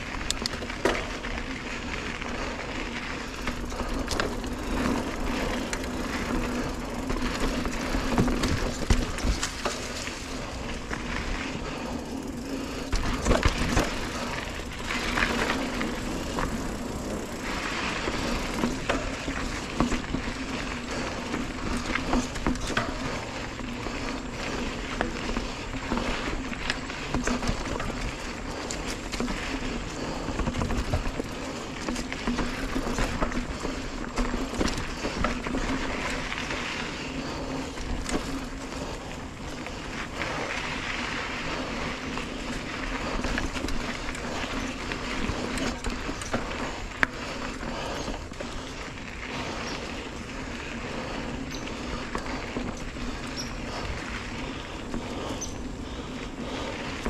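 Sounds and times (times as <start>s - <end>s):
bike rattling over bumps: 0.0s - 57.0s
bike tyres rolling over dirt: 0.0s - 57.0s.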